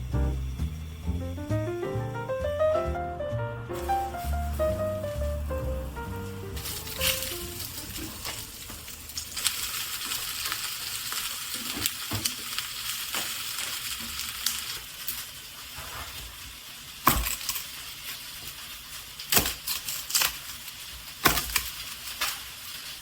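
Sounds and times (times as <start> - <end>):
chicken sizzling in a frying pan: 0.0 - 1.8, 3.7 - 23.0.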